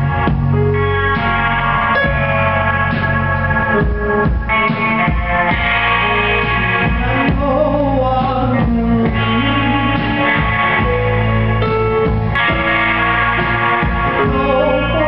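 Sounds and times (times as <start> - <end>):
electric guitar picking: 0.0 - 15.0
folk-rock band playing live: 0.0 - 15.0.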